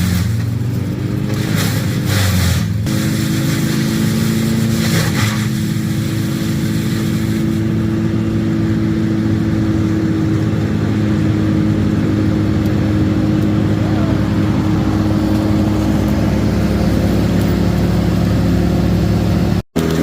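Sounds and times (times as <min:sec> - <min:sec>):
work machine engine running: 0:00.0 - 0:20.0.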